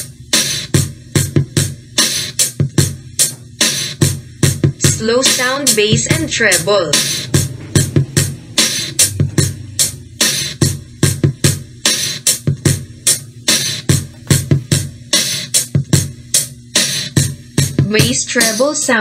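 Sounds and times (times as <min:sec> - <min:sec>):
electronic drum beat from speaker: 0:00.0 - 0:19.0.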